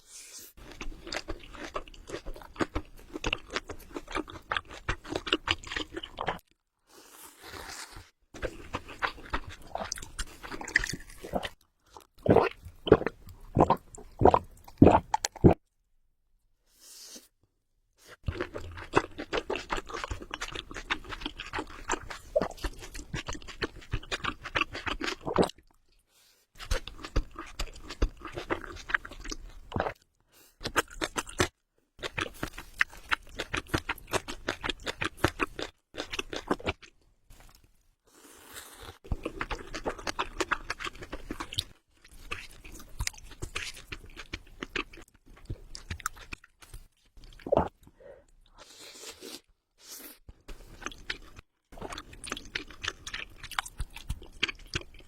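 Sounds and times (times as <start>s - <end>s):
close chewing of noodles: 0.6s - 15.6s, 18.0s - 26.0s, 26.6s - 55.0s.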